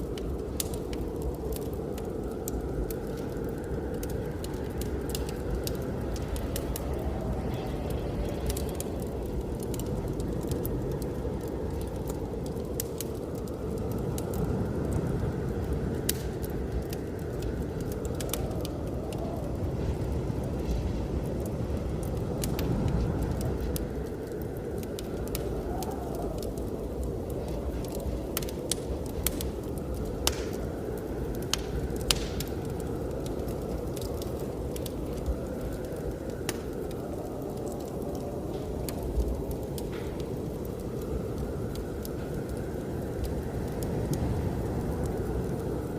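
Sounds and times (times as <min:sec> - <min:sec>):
snowstorm wind rushing: 0:00.0 - 0:45.9
wood fire crackling: 0:00.0 - 0:45.9.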